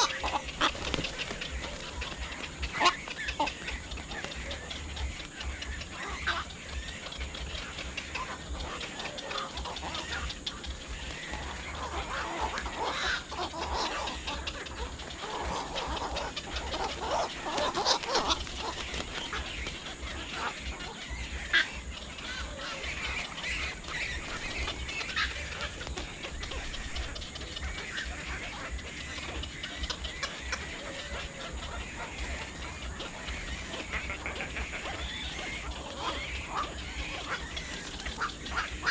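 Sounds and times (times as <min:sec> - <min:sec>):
birds calling: 0:00.0 - 0:38.9.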